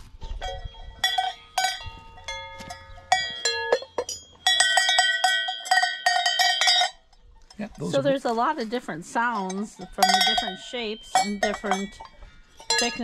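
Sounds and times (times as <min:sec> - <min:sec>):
cow bells clanging: 0:00.0 - 0:13.0.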